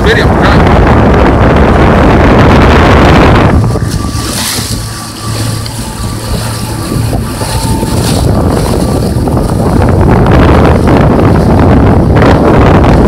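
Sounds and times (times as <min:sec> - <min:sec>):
jet ski engine drone: 0:00.0 - 0:13.0
wind rumbling on microphone: 0:00.0 - 0:13.0
water rushing and splashing: 0:01.7 - 0:13.0.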